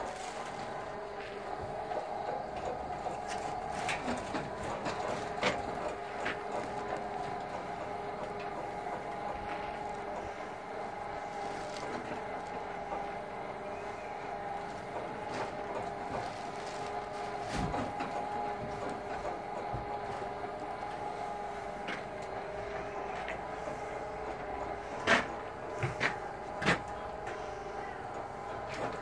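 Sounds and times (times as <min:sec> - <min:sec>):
motor running steadily: 0:00.0 - 0:29.0.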